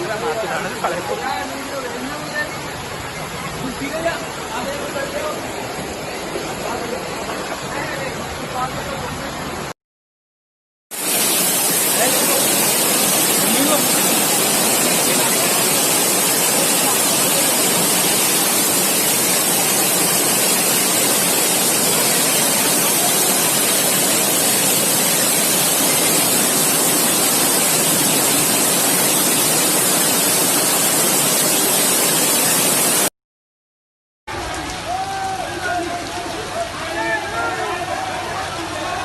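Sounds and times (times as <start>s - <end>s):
floodwater rushing: 0.0s - 9.7s, 10.9s - 33.1s.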